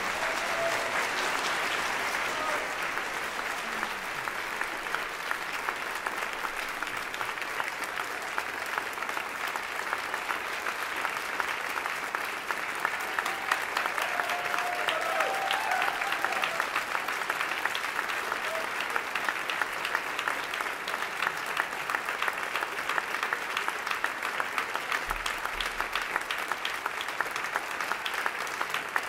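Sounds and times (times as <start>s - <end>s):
audience applauding: 0.0s - 29.0s.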